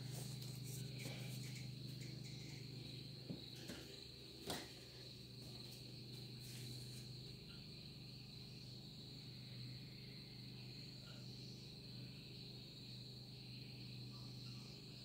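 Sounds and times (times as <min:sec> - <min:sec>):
crickets trilling: 0:00.0 - 0:15.0
low steady hum: 0:00.0 - 0:15.0.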